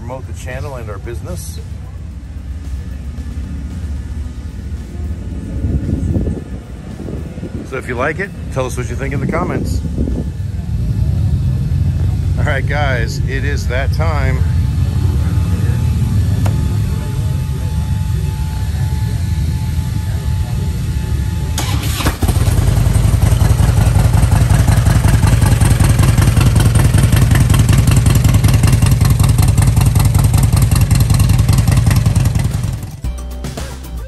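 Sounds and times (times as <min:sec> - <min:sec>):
motorcycle engine starting and running: 0:00.0 - 0:34.0
quieter engine rumble: 0:00.0 - 0:34.0.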